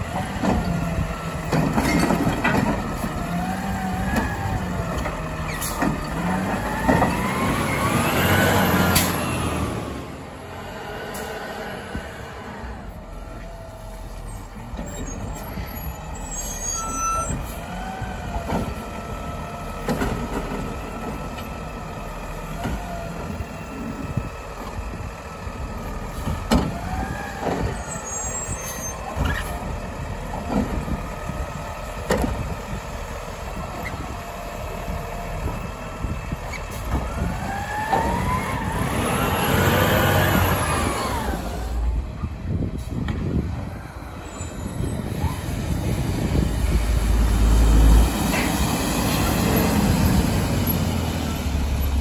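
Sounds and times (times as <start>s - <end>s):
garbage truck engine revving: 0.0s - 43.0s, 44.7s - 52.0s.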